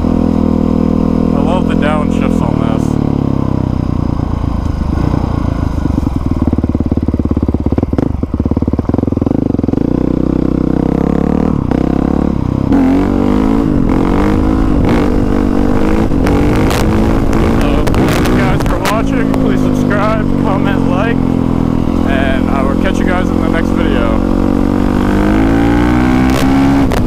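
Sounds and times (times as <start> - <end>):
dirt bike engine running: 0.0 - 27.0.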